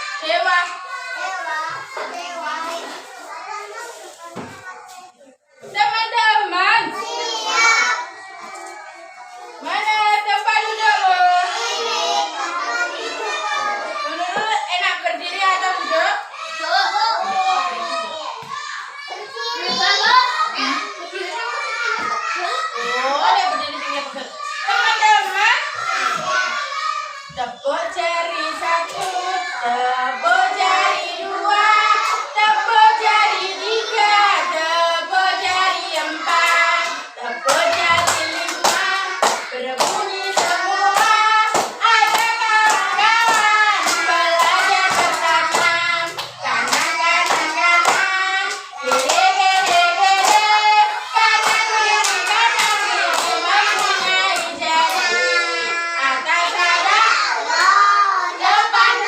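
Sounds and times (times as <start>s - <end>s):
children singing: 0.0s - 4.6s, 6.8s - 59.0s.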